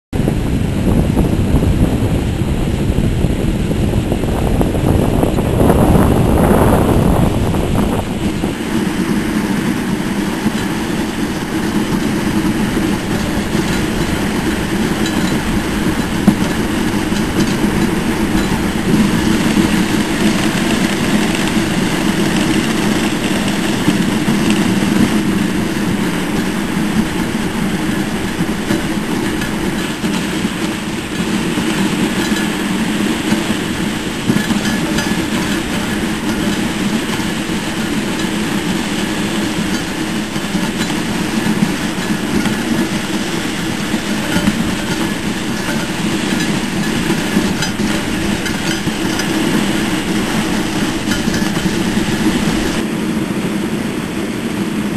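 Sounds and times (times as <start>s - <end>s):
sled runners scraping on snow: 4.2s - 54.9s.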